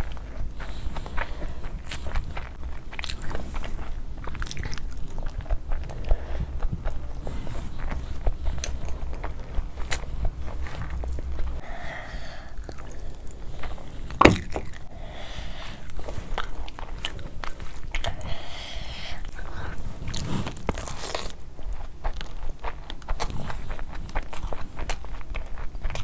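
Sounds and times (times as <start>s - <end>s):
wet chewing and lip smacks: 0.0s - 11.7s, 12.4s - 14.9s, 15.6s - 18.5s, 19.2s - 26.0s.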